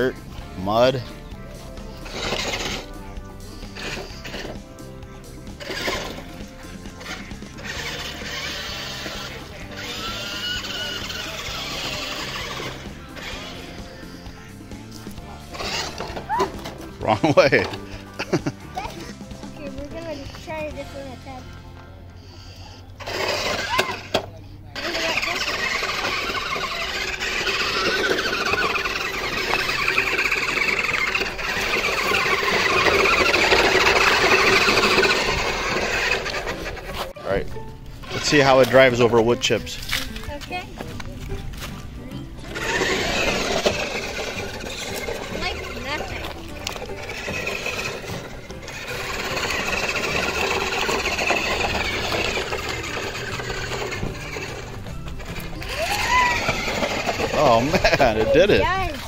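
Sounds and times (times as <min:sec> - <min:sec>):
toy truck motor whining: 0:00.0 - 0:37.2, 0:38.0 - 0:59.0
tyres and chassis rattling: 0:00.0 - 0:59.0.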